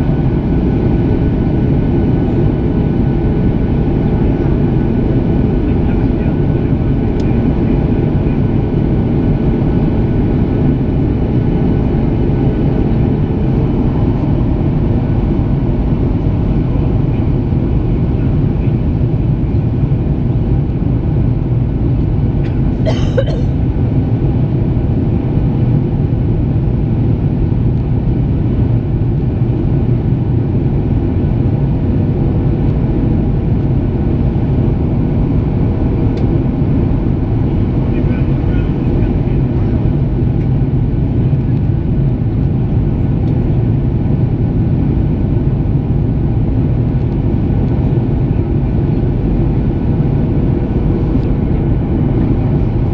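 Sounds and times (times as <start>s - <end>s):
airplane cabin roar: 0.0s - 52.9s.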